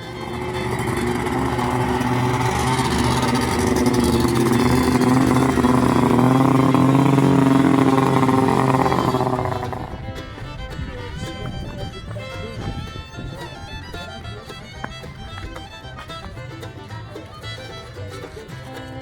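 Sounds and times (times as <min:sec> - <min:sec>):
snowmobile engine running: 0:00.0 - 0:17.8.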